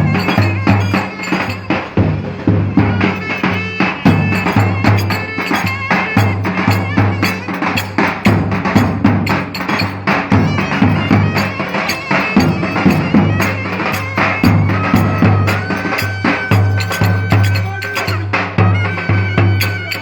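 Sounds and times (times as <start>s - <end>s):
fast drum and percussion beats: 0.0s - 20.0s
reedy wind instrument melody: 0.0s - 20.0s.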